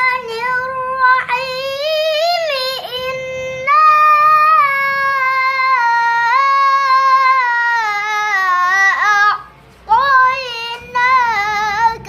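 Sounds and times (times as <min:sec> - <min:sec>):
child chanting melodically: 0:00.0 - 0:12.0.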